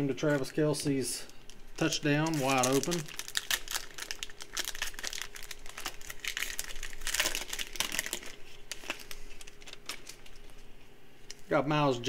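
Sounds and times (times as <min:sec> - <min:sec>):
foil wrapper crinkling and tearing: 0:00.2 - 0:10.7.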